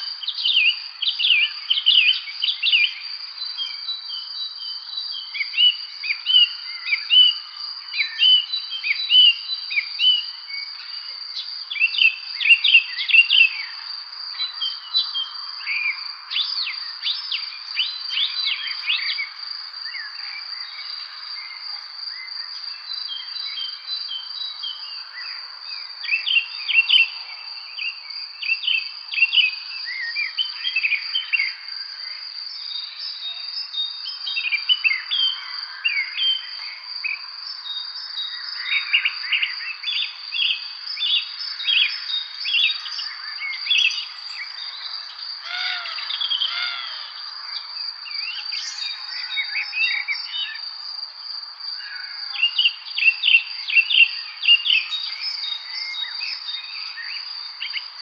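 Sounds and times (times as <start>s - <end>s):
insect trill: 0.0s - 58.0s.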